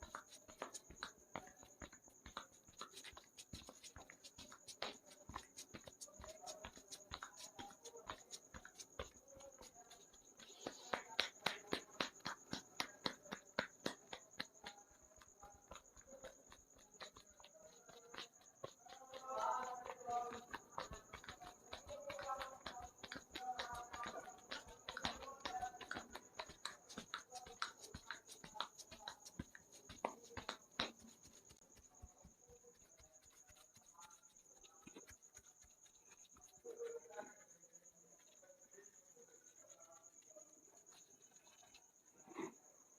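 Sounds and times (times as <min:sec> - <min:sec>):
crickets chirring: 0:00.0 - 0:42.9.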